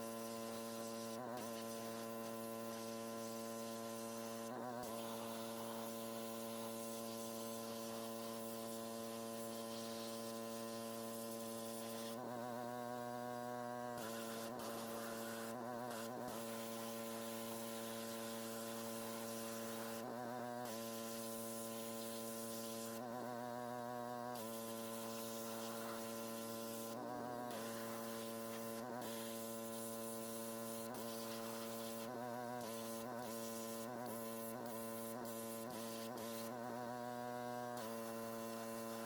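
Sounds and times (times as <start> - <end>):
high-pressure water spray hiss: 0.1 - 12.2, 14.0 - 20.0, 20.7 - 23.0, 24.4 - 26.9, 27.5 - 36.5, 37.8 - 39.0.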